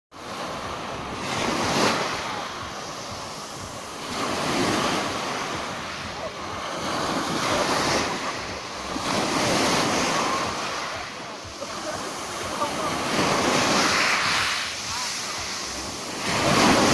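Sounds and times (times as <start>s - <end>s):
waves breaking on pebble beach: 0.3s - 16.9s.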